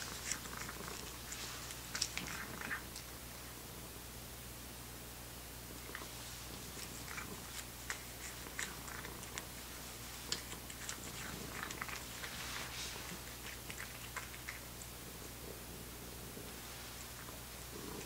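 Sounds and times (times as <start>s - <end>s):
cat chewing and crunching: 0.0s - 3.3s, 5.8s - 18.0s.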